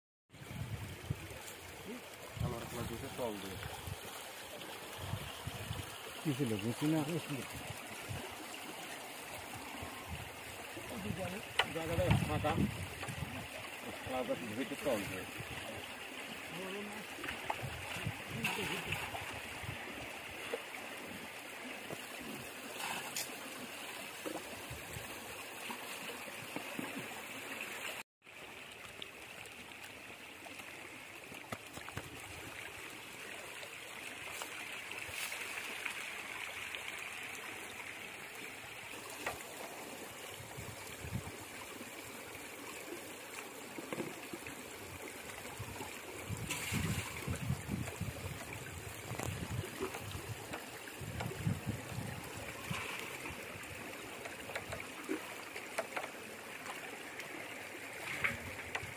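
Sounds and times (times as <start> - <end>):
water splashing and trickling: 0.3 - 58.9.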